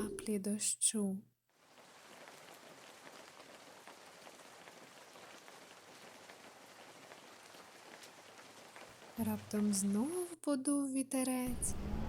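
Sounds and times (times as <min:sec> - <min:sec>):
light rain pattering: 0:01.5 - 0:11.6.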